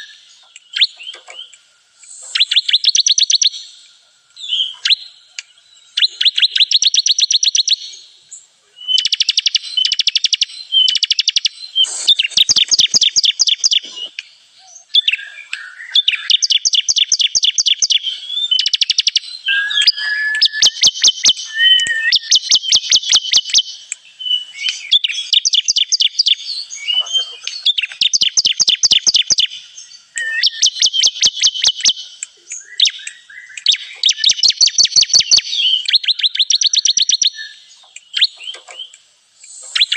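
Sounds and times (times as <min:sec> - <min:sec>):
bird singing fast high trills: 0:02.3 - 0:03.8, 0:04.4 - 0:08.1, 0:08.9 - 0:13.8, 0:14.7 - 0:38.6.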